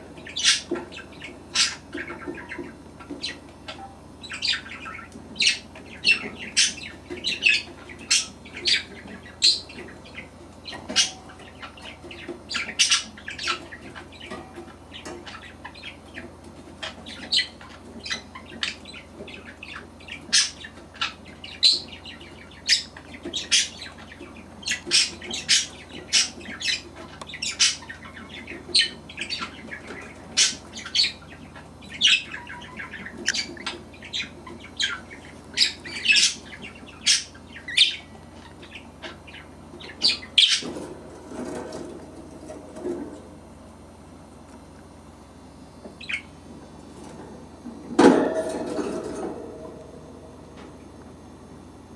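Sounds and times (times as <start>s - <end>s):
budgerigar chicks squeaking: 0.0s - 43.2s, 45.3s - 49.8s.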